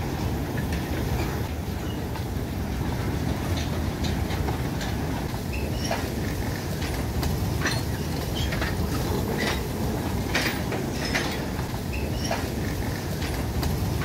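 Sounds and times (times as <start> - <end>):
wagon wheels rumbling on rail: 0.0 - 14.0
wheel clicks and squeaks: 0.6 - 2.3, 3.4 - 14.0.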